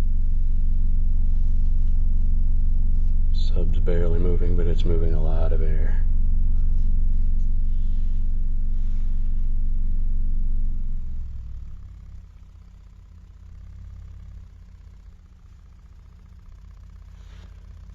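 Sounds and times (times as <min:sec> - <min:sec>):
deep subwoofer test tone hum: 0:00.0 - 0:17.9
quiet low rumble: 0:00.0 - 0:17.9.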